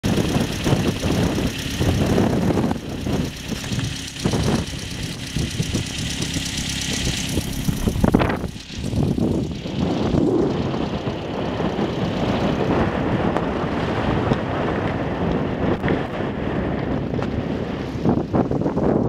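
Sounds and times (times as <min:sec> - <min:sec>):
car engine idling unevenly: 0:00.0 - 0:18.8.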